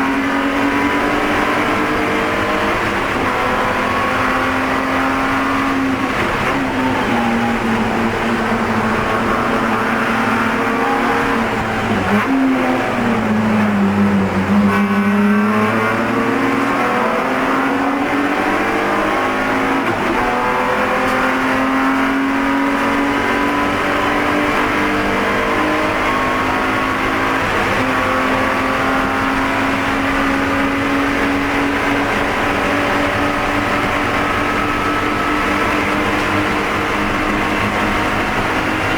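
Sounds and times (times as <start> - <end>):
race car engine under hard throttle: 0.0 - 38.9.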